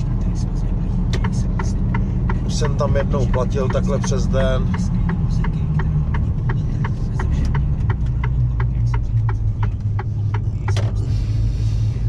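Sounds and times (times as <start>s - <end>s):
diesel engine running: 0.0s - 12.0s
light regular ticking: 0.9s - 10.9s.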